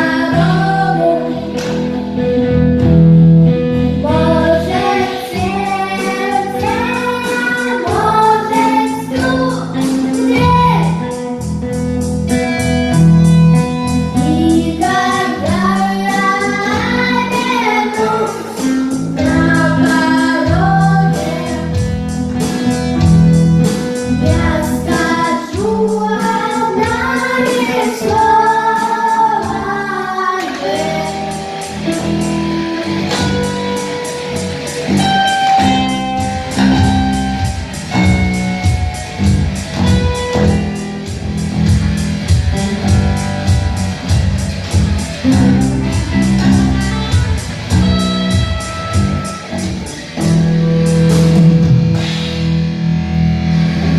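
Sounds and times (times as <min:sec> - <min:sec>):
high voices singing: 0:00.0 - 0:53.9
strummed guitar: 0:00.0 - 0:53.9
steady beat: 0:04.7 - 0:28.5, 0:30.5 - 0:53.9.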